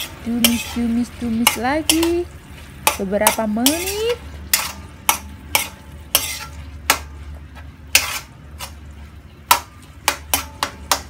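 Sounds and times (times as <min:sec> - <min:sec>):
metal spoon scraping a wok: 0:00.0 - 0:02.2, 0:02.8 - 0:07.2, 0:07.9 - 0:08.9, 0:09.5 - 0:11.0
faint sizzle: 0:00.0 - 0:11.0.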